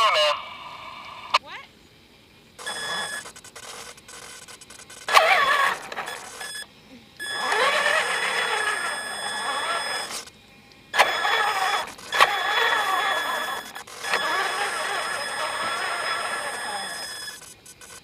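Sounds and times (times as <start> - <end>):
toy truck motor whining: 2.6 - 18.0.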